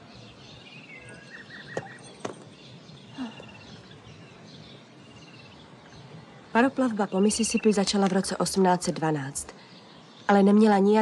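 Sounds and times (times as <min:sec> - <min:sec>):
birds chirping in trills: 0:00.0 - 0:11.0.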